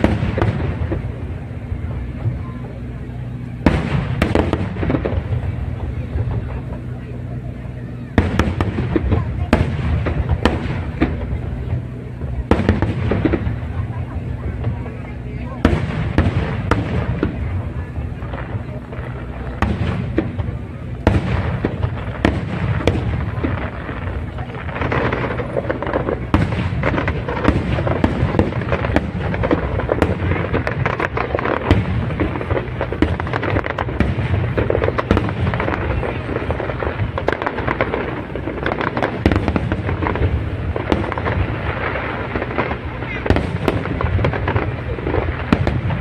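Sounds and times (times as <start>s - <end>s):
fireworks bangs and crackling: 0.0s - 46.0s
low rumble: 0.0s - 46.0s.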